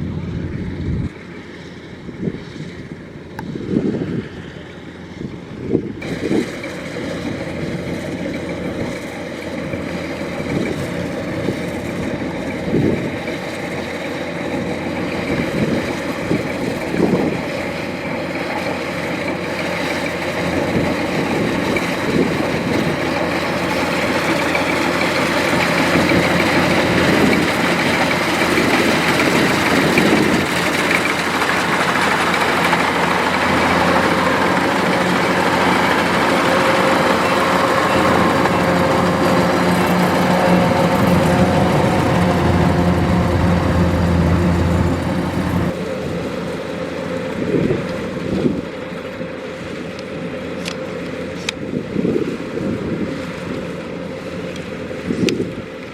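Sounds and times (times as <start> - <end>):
combine harvester engine: 0.0 - 55.9.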